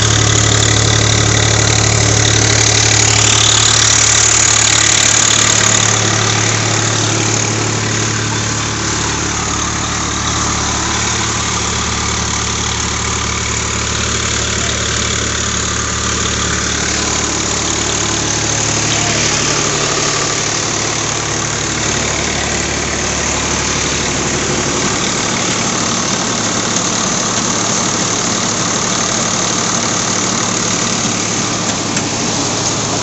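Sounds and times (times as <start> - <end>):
diesel tractor engine running: 0.0 - 33.0
rice huller grinding: 0.0 - 33.0.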